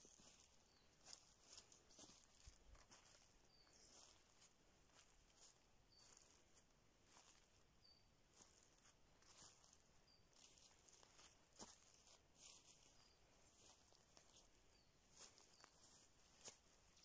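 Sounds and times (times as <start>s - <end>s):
footsteps crunching through leaves: 0.0s - 7.6s, 8.3s - 17.0s.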